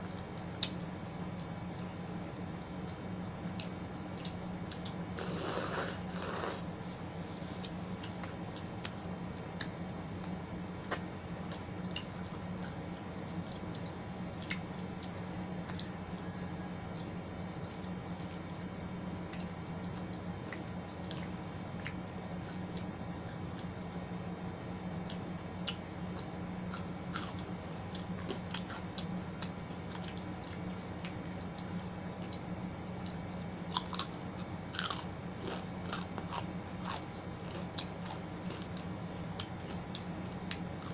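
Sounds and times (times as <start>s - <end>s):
soft chewing: 0.0s - 40.9s.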